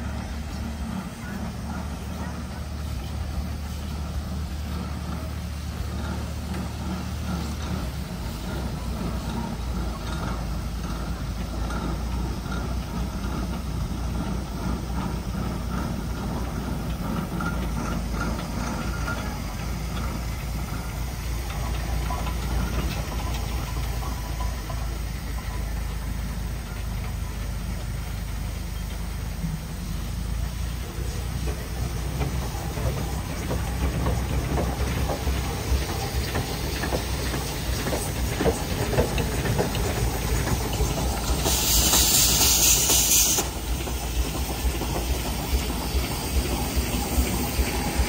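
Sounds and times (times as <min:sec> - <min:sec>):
steam traction engine clattering: 0:00.0 - 0:48.0.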